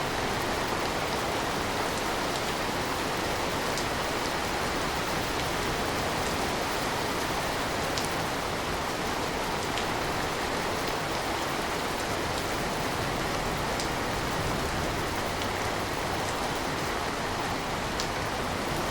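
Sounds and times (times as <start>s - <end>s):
steady rain: 0.0s - 18.9s.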